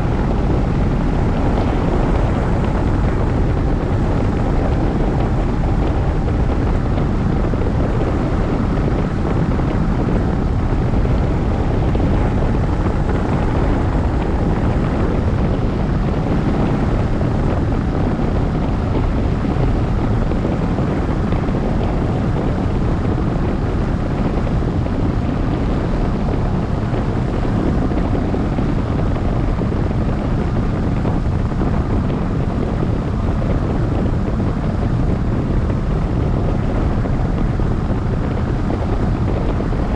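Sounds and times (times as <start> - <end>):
faint steady hum: 0.0 - 39.9
wind rushing over microphone: 0.0 - 39.9.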